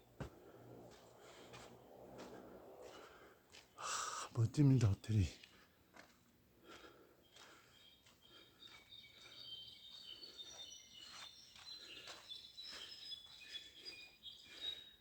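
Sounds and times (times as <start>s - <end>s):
birds chirping: 0.0s - 5.7s, 6.6s - 15.0s.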